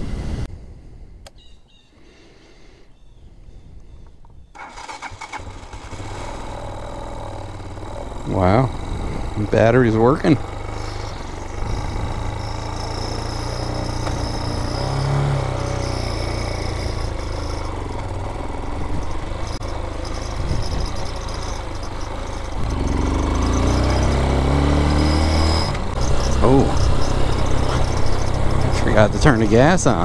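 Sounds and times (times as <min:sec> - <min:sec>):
dirt bike engine running: 0:04.6 - 0:30.0.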